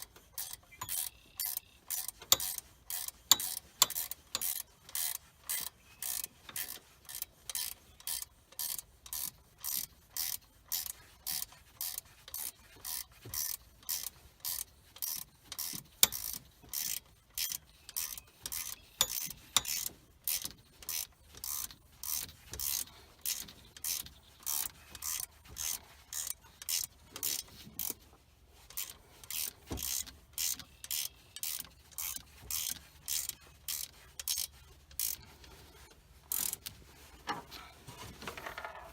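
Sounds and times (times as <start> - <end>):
ratchet wrench clicking: 0.0 - 28.0, 28.7 - 35.6, 36.3 - 36.7.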